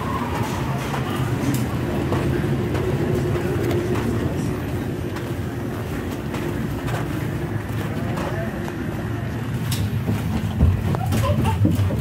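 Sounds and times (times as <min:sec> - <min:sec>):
footsteps walking: 0:00.0 - 0:12.0
low ship hum: 0:00.0 - 0:12.0.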